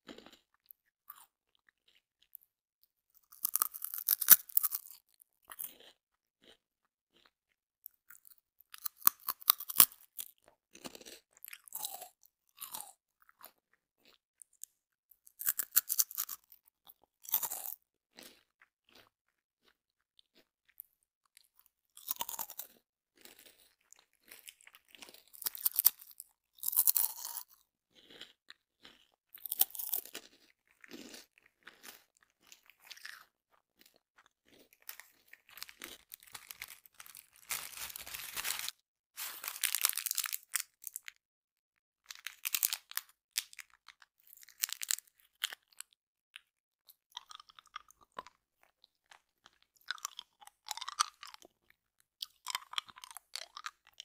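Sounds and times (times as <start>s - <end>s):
crunchy snacks being chewed: 0.0s - 41.2s, 42.0s - 54.0s.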